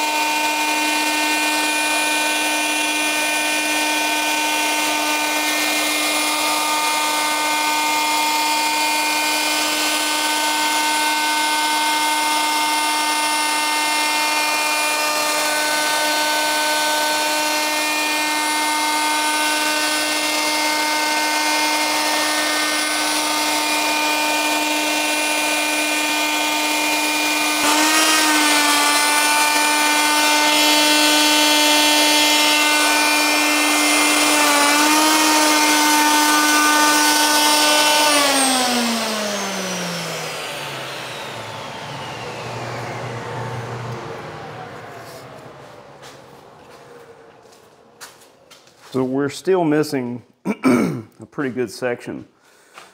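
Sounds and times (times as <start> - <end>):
router high whine: 0.0 - 49.8.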